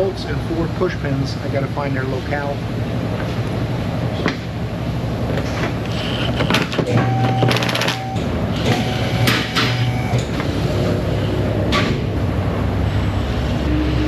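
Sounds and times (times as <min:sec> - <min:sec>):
low shop hum: 0:00.0 - 0:14.0.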